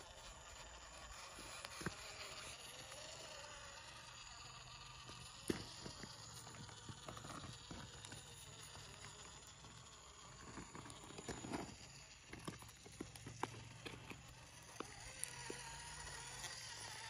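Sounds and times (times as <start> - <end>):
toy car tyres clicking on stone: 0.0 - 17.0.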